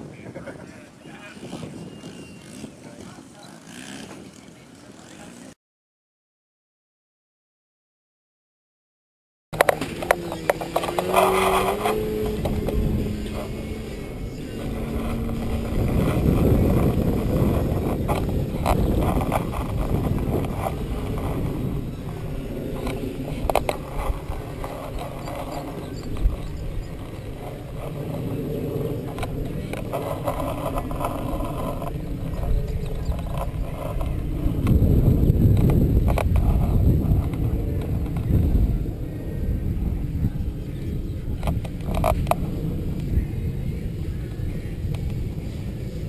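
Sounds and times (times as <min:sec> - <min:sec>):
wind rumbling on microphone: 0:00.0 - 0:05.6, 0:09.6 - 0:46.0.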